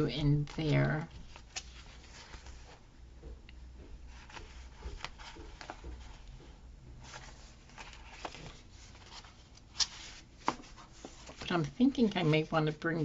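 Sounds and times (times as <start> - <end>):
paper rustling: 0.2 - 2.8, 4.1 - 6.2, 7.0 - 13.0.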